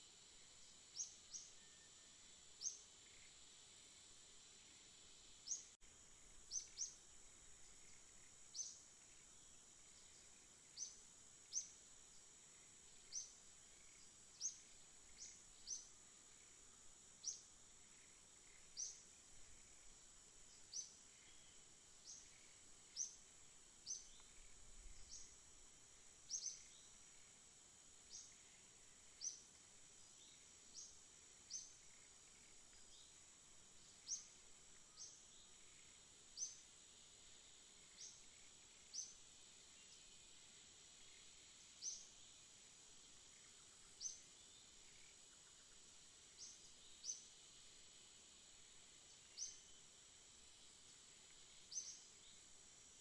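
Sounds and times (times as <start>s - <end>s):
songbird chirping: 0.1s - 4.0s, 4.6s - 27.4s, 28.0s - 47.6s, 48.8s - 53.0s.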